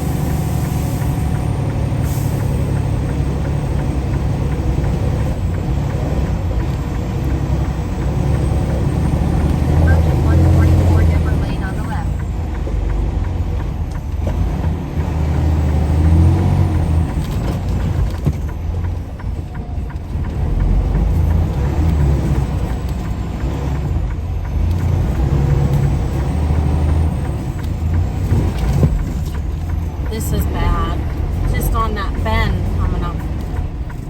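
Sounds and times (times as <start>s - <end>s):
truck diesel engine rumble: 0.0s - 34.0s.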